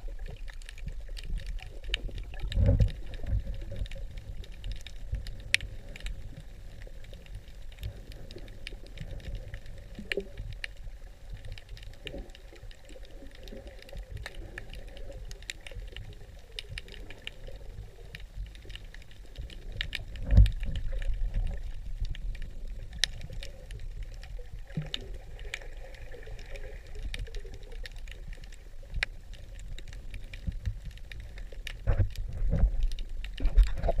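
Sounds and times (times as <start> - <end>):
low underwater rumble: 0.0 - 34.0
sharp clicks and crackles: 0.0 - 34.0.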